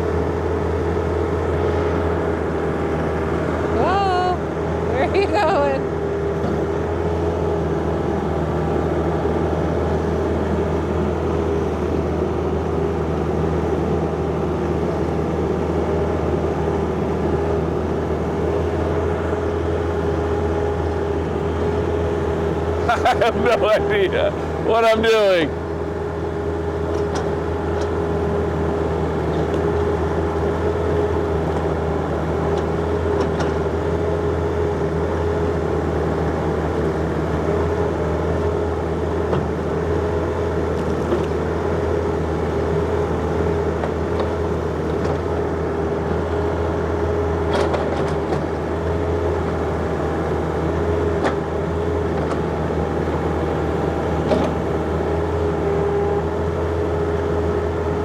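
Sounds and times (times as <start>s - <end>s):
excavator diesel engine humming: 0.0s - 58.0s.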